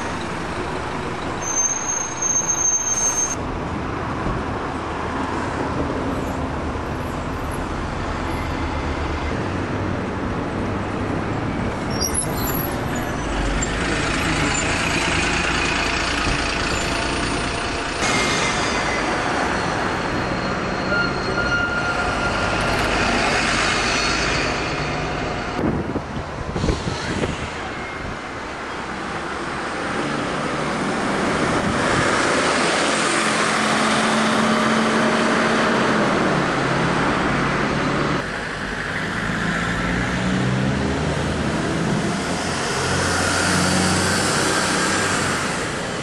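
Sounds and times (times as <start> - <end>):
bus diesel engine passing: 0.0 - 21.3, 21.9 - 46.0
street traffic: 0.0 - 46.0.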